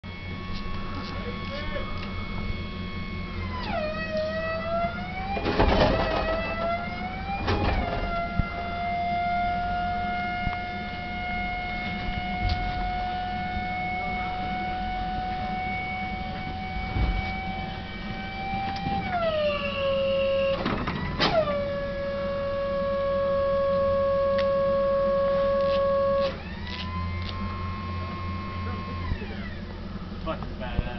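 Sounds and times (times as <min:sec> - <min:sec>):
machinery high whine: 0:00.0 - 0:30.9.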